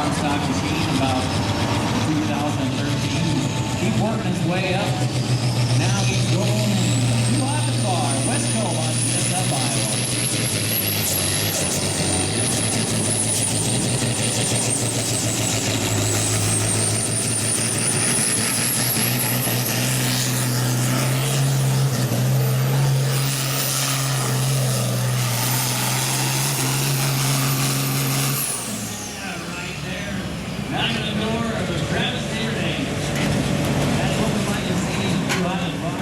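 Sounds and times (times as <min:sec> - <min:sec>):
tractor diesel engine under load: 0:00.0 - 0:36.0.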